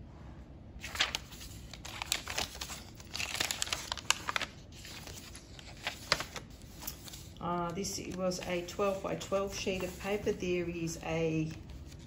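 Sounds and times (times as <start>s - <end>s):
paper pages crinkling and rustling: 0.8s - 12.0s.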